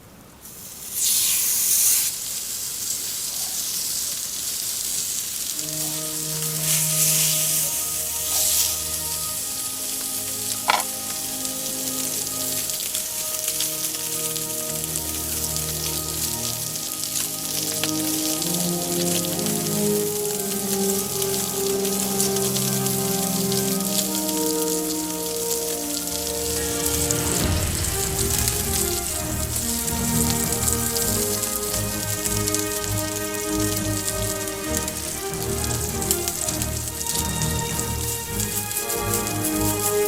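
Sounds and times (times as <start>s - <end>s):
steak sizzling in frying pan: 0.6s - 40.0s
background music with held notes: 5.5s - 40.0s.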